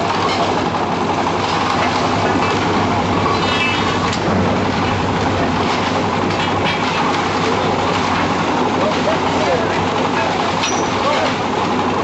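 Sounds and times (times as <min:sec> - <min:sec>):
heavy machinery engine droning: 0:00.0 - 0:12.0.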